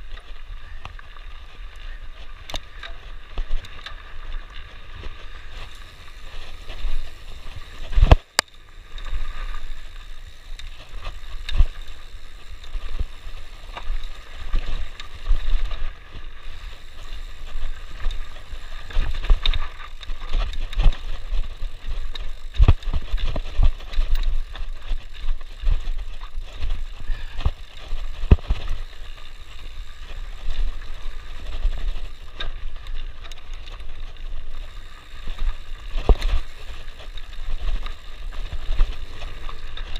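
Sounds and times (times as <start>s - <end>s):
bike tyre and drivetrain rattle: 0.0s - 39.9s
bike knocking on rocks: 2.3s - 39.9s.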